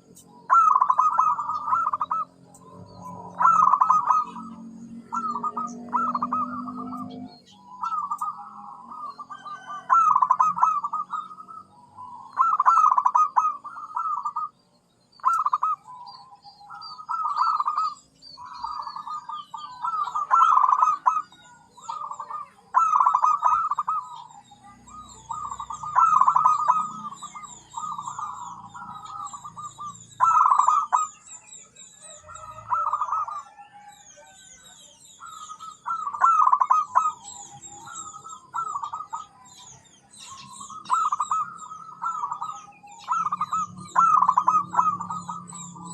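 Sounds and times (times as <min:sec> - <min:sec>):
dove cooing in trilled phrases: 0:00.0 - 0:45.9
high-pitched small bird chirps: 0:00.0 - 0:45.9.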